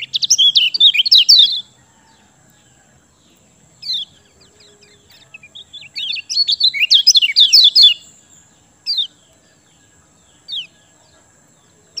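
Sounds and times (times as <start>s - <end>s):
sharp falling bird calls: 0.0s - 12.0s
songbird chirping: 0.0s - 12.0s.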